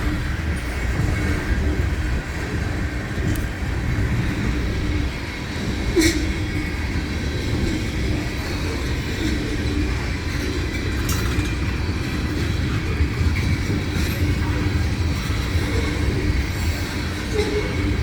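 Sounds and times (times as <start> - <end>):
freight train wheels rumbling on rails: 0.0 - 18.0.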